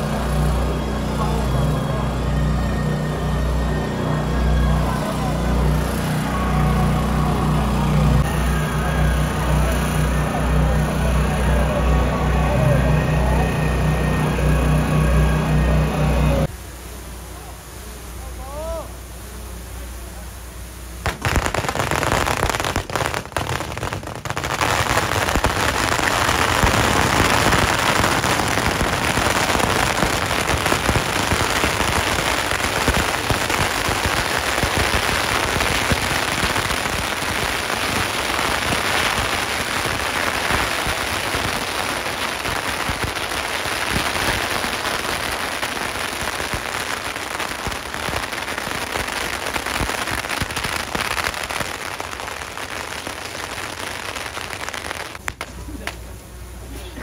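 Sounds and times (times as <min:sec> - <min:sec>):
firecrackers crackling and banging: 0:00.0 - 0:16.5, 0:21.0 - 0:57.0.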